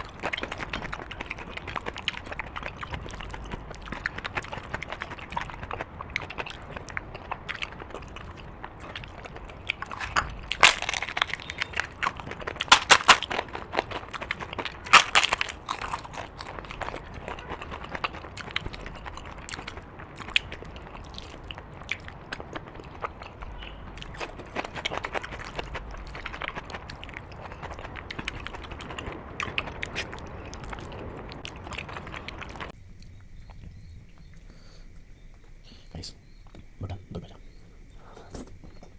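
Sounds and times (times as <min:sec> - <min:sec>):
person chewing and crunching: 0:00.0 - 0:35.5, 0:37.8 - 0:38.9.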